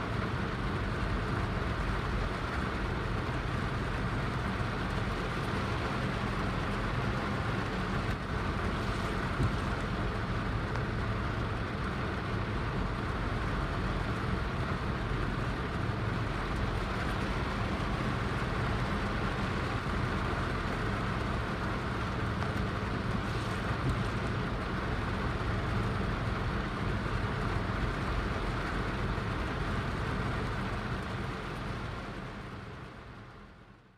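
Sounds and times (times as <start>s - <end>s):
heavy rain falling: 0.1s - 33.4s.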